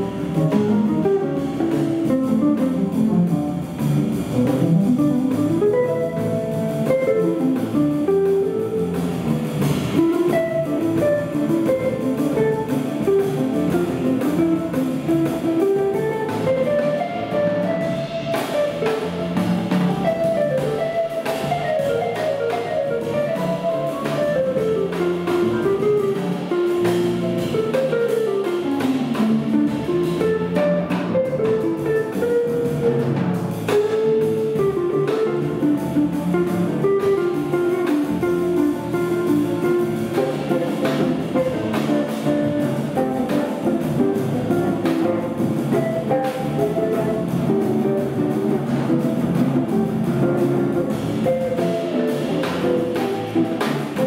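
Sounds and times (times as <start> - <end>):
drum kit: 0.0 - 54.0
jazz band playing: 0.0 - 54.0
guitar melodic lines: 4.1 - 54.0.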